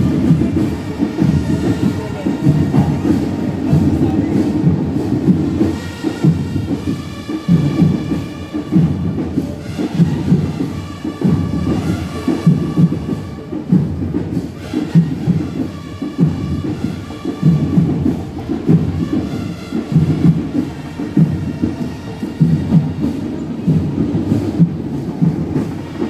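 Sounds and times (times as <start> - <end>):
marching band drums pounding: 0.0 - 26.0
sustained band melody: 0.0 - 26.0.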